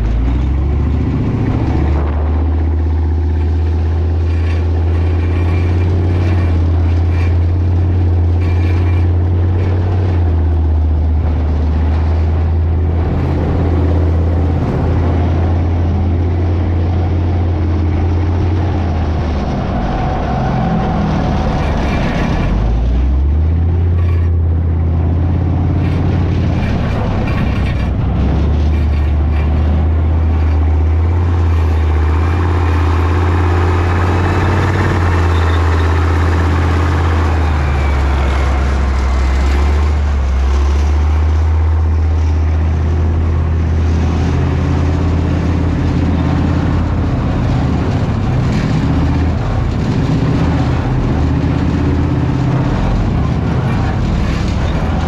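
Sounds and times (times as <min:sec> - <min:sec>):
tank diesel engine droning: 0:00.0 - 0:55.0.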